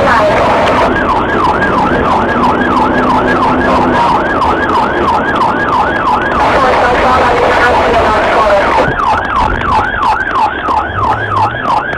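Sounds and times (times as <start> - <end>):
car engine: 0.0 - 11.9
police siren yelping: 0.0 - 11.9
road noise: 0.0 - 11.9.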